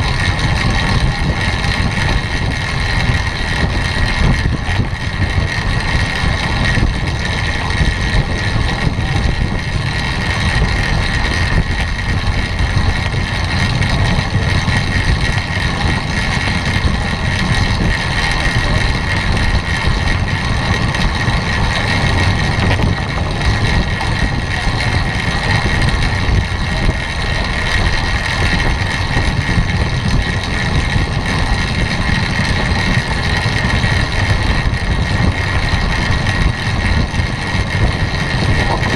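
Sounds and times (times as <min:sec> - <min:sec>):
bicycle tyres on wooden boards: 0:00.0 - 0:38.9
wind over microphone: 0:00.0 - 0:38.9.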